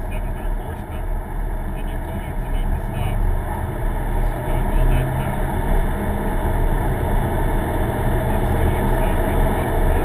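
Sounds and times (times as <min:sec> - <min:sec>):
car engine running: 0:00.0 - 0:10.0
road and tyre rumble: 0:00.0 - 0:10.0.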